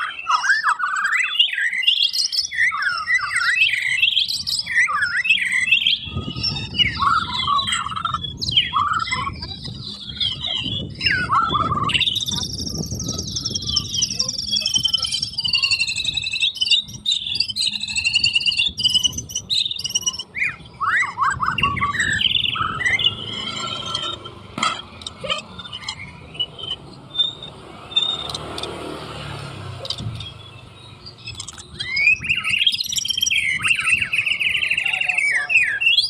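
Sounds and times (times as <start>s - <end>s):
bird singing whistled phrases: 0.0s - 24.3s, 25.3s - 28.4s, 30.1s - 36.0s.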